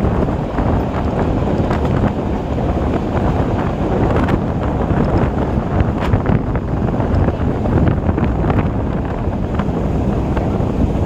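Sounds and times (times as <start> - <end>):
moving train rumble: 0.0 - 11.0
wind buffeting the microphone: 0.0 - 11.0.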